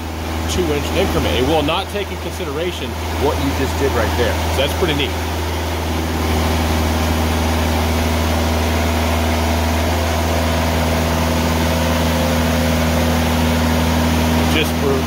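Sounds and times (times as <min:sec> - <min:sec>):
sawmill engine running: 0:00.0 - 0:15.0.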